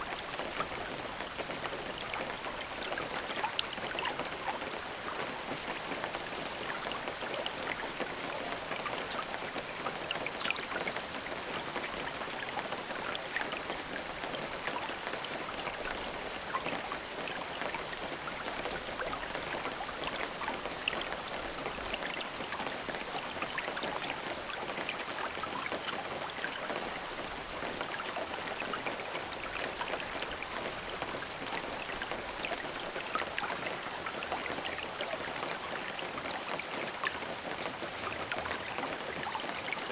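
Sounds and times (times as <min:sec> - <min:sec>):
raindrops pattering on a surface: 0:00.0 - 0:39.9.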